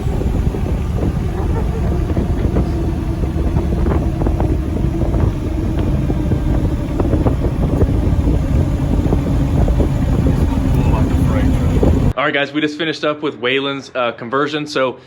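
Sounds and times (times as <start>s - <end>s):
diesel truck engine drone: 0.0s - 12.2s
road and wind noise: 0.0s - 12.2s.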